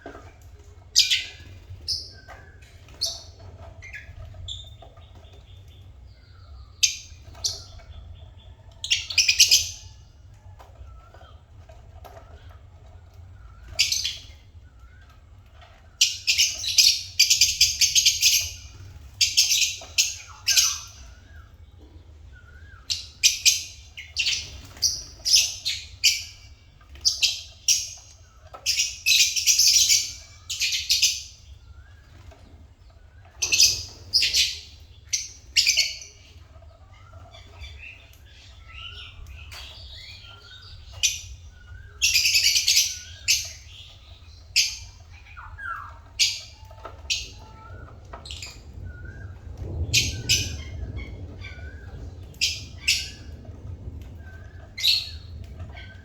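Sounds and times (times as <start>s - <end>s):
lovebirds chirping: 0.0s - 56.0s.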